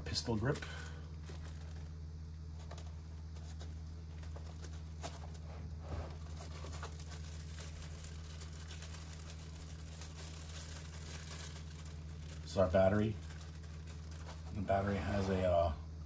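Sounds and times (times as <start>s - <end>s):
plastic bag rustling: 0.0s - 15.3s
low hum: 0.0s - 16.0s.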